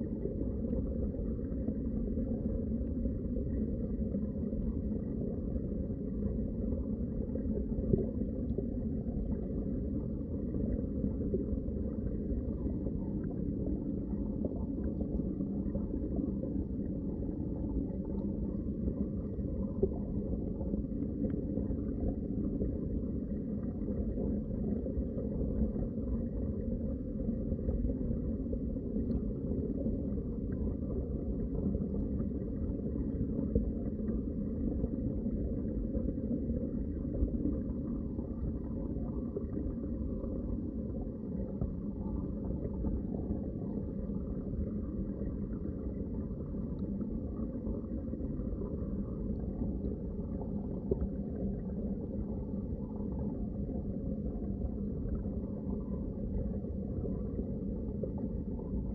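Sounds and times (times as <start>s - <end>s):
underwater water rumble: 0.0s - 58.9s.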